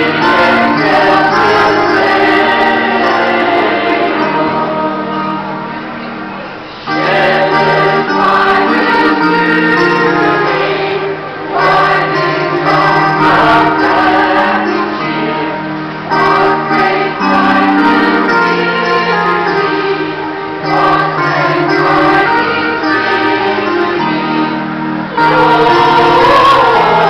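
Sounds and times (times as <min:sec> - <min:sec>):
mixed choir singing a carol: 0:00.0 - 0:27.0.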